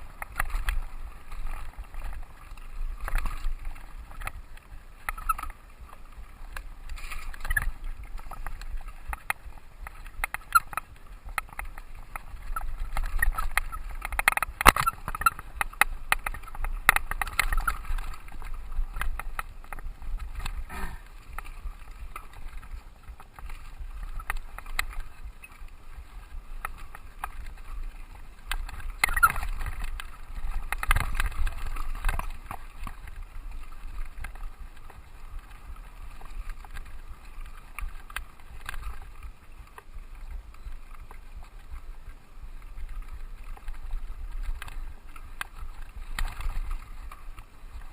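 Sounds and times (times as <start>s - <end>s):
bike rattling and knocking: 0.0s - 47.9s
bike tyre noise on dirt: 0.0s - 47.9s
wind on microphone: 0.0s - 47.9s.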